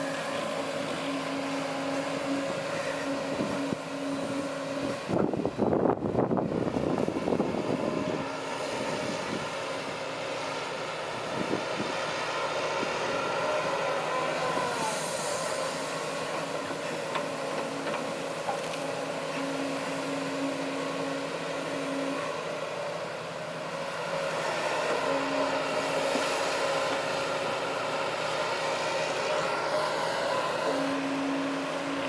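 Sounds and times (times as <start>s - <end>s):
heavy machinery diesel engines: 0.0s - 32.0s.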